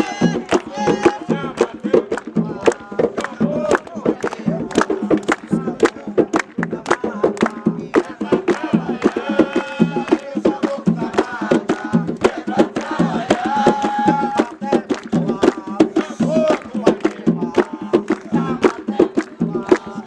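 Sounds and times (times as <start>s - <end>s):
drums beating quick rhythm: 0.0s - 20.0s
voices singing sacred song: 0.0s - 20.0s.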